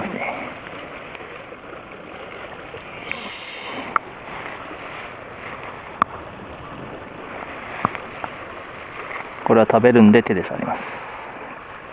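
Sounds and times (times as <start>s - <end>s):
river water rushing: 0.0s - 11.9s.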